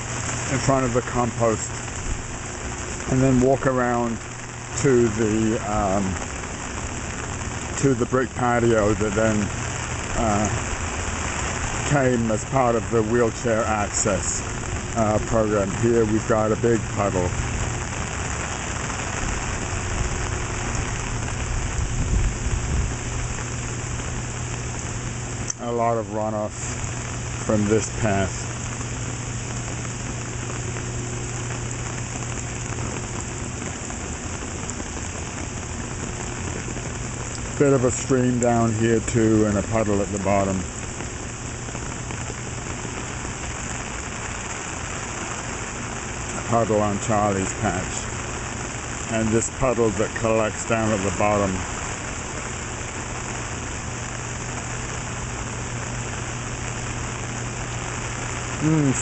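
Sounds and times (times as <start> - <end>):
low hum: 0.0 - 59.0
rain on an umbrella: 0.0 - 59.0.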